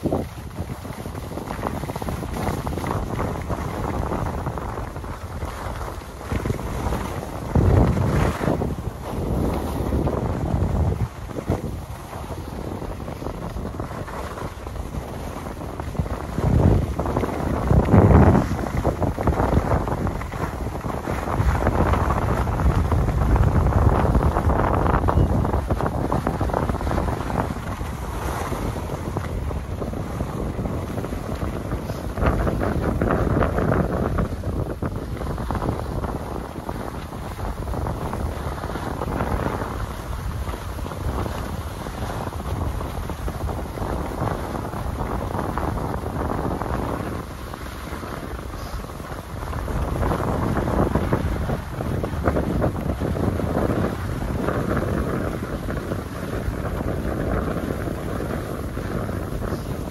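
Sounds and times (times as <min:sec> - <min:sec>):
skis scraping snow: 0:00.0 - 0:24.8, 0:25.6 - 0:59.9
wind on microphone: 0:00.0 - 0:59.9.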